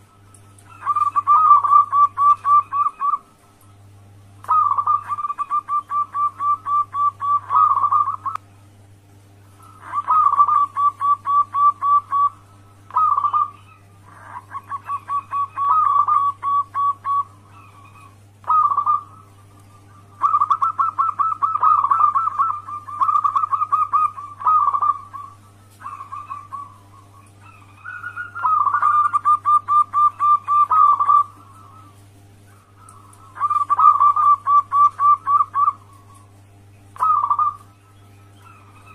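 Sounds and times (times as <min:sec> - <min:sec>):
dove cooing: 0:00.0 - 0:08.4, 0:09.4 - 0:38.9
low steady hum: 0:00.0 - 0:38.9.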